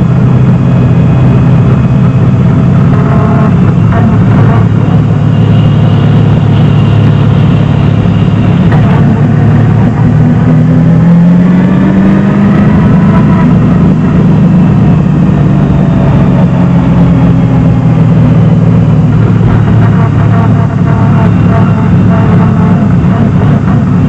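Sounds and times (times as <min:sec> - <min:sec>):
race car engine from inside cabin: 0:00.0 - 0:24.0.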